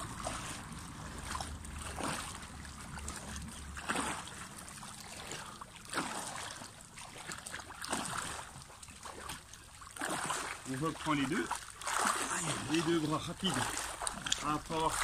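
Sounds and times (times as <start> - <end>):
pool water swishing and splashing: 0.0 - 15.0.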